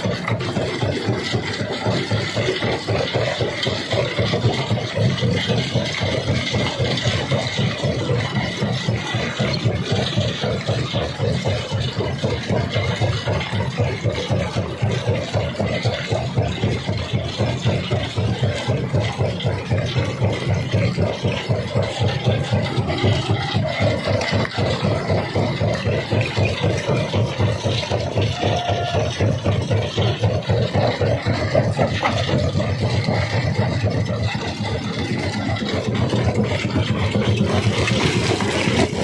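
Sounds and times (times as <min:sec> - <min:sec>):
machine rattling: 0:00.0 - 0:39.0
rock crusher running: 0:00.0 - 0:39.0.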